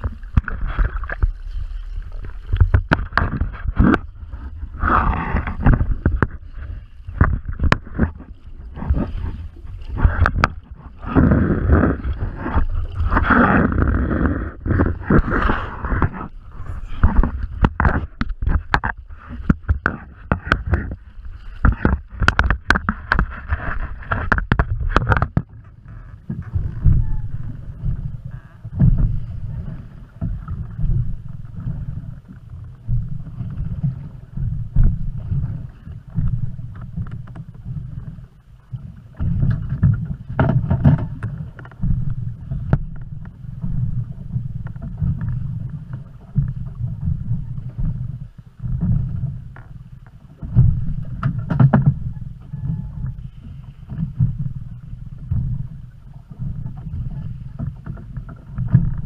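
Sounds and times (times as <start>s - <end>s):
low rumble: 0.0s - 59.0s
sea water sloshing and splashing: 0.0s - 59.0s.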